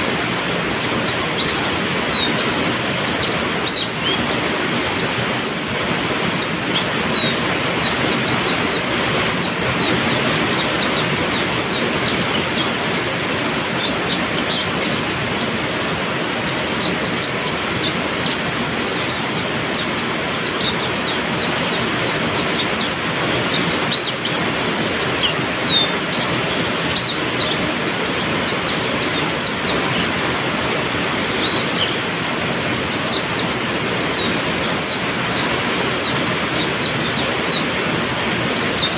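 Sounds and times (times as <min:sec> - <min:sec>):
bird chirping: 0:00.0 - 0:38.9
heavy rain: 0:00.0 - 0:38.9.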